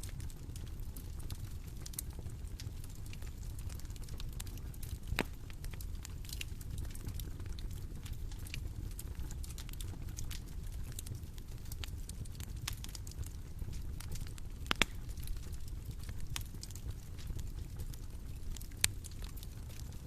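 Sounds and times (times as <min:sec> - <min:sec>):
bonfire crackling: 0:00.0 - 0:20.0
fire popping: 0:00.0 - 0:20.0.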